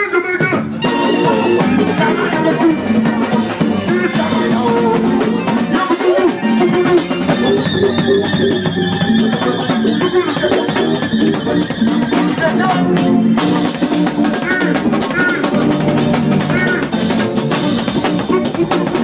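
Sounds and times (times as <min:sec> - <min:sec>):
drum kit beat: 0:00.0 - 0:19.0
guitar: 0:00.0 - 0:19.0
live band playing loudly: 0:00.0 - 0:19.0.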